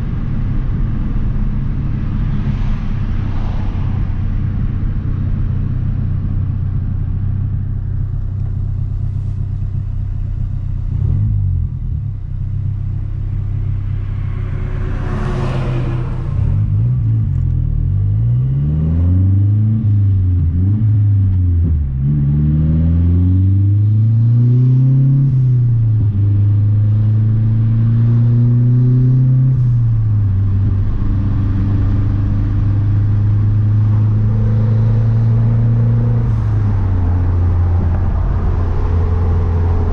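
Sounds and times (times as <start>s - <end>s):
car engine droning and revving: 0.0s - 39.9s.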